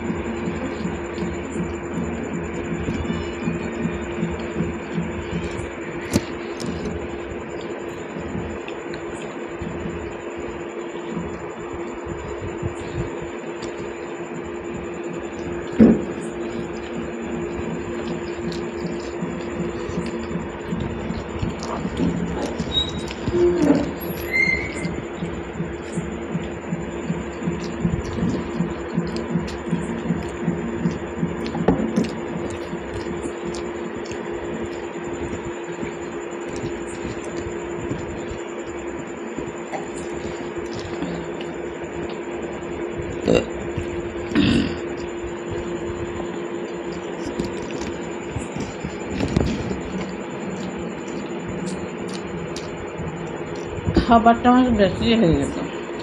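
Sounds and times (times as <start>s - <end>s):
quiet chewing: 0.0s - 54.0s
wet squishing of food by hand: 0.0s - 54.1s
electrical hum with high whine: 0.0s - 56.0s
fingers mixing moist rice: 0.0s - 56.0s.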